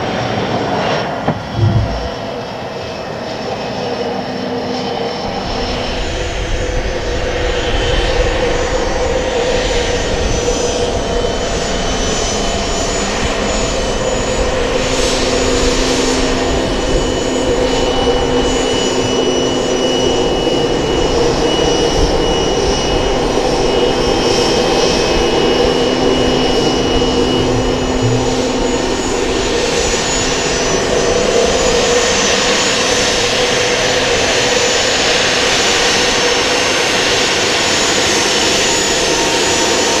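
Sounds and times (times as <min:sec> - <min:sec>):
jet engines whining while taxiing: 0:00.0 - 0:40.0.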